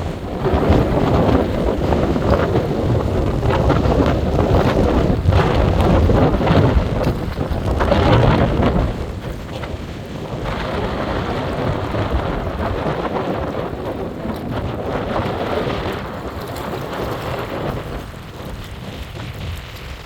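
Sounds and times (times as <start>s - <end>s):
low roll of thunder: 0.0s - 20.0s.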